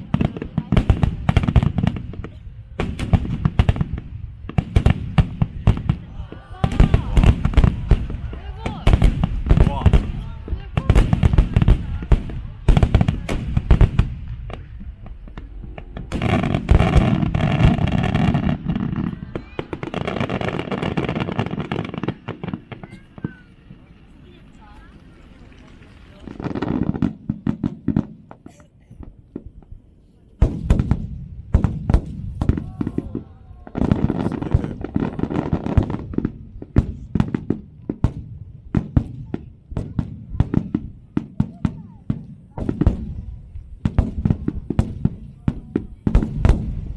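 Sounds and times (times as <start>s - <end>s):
fireworks bursting: 0.0s - 46.9s
fireworks crackle: 0.0s - 46.9s.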